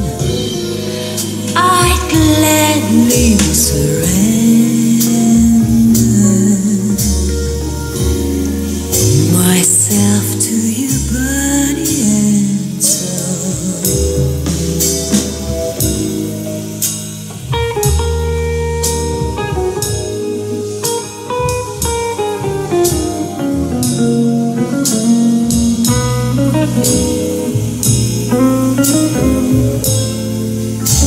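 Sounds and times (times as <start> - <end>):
music with guitar bass and drums: 0.0 - 31.0.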